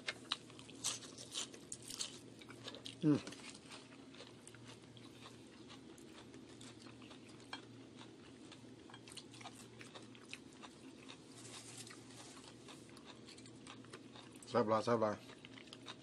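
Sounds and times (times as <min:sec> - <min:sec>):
chewing and crunching food: 0:00.0 - 0:16.0
low background hum: 0:00.0 - 0:16.0.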